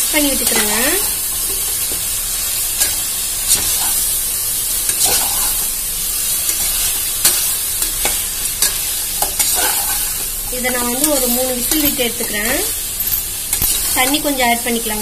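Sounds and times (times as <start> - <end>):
meat sizzling in pot: 0.0 - 15.0.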